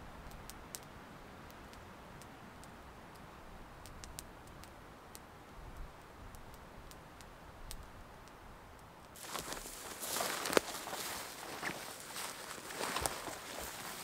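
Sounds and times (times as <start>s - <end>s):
campfire crackling: 0.0s - 14.0s
low steady hiss: 0.0s - 14.0s.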